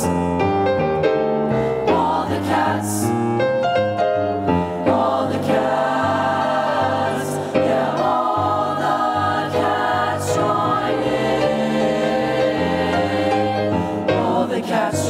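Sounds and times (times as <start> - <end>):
piano accompaniment: 0.0 - 15.0
choir singing: 1.8 - 3.6, 4.6 - 15.0.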